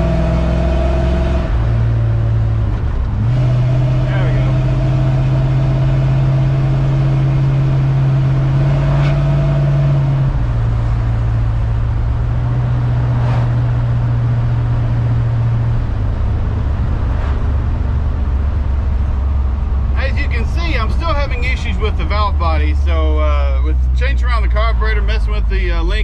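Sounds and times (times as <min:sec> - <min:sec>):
truck engine running: 0:00.8 - 0:08.7, 0:09.3 - 0:26.0.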